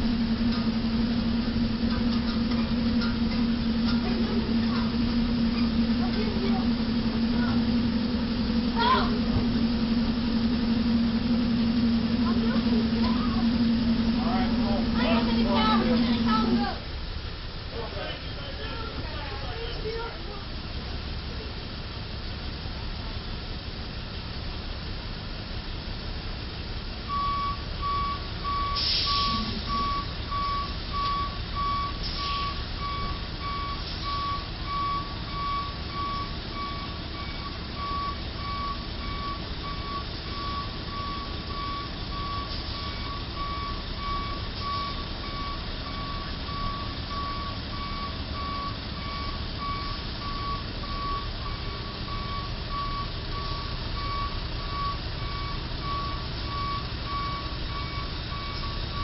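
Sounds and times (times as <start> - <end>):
truck backup alarm beeping: 0.0 - 17.3, 25.7 - 59.0
low engine rumble: 0.0 - 59.0.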